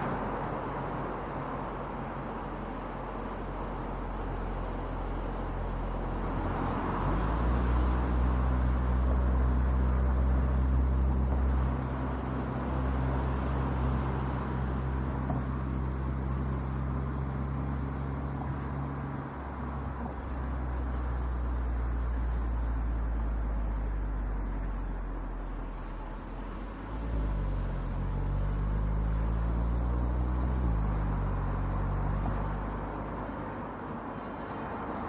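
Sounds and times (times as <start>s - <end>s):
low engine hum: 0.0s - 35.0s.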